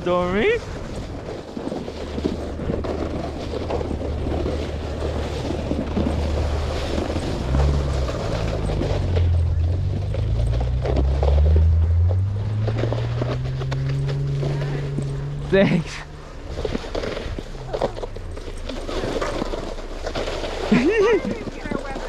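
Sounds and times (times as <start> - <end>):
wind buffeting microphone: 0.0 - 18.6
snowboard scraping over snow: 0.0 - 22.0
low hum: 1.1 - 22.0.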